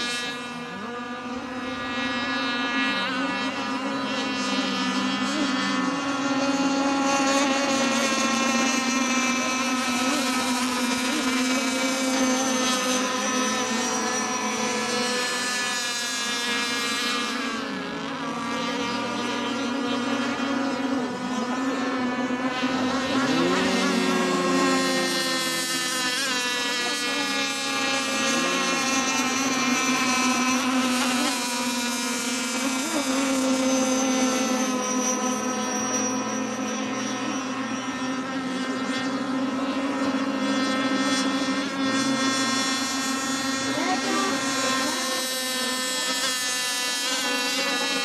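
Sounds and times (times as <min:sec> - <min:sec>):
racing boat engines whining: 0:00.0 - 0:48.0.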